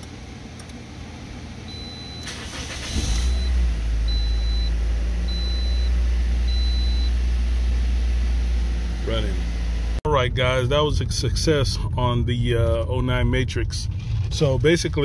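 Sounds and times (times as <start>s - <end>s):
car engine cranking and running: 0.0s - 15.0s.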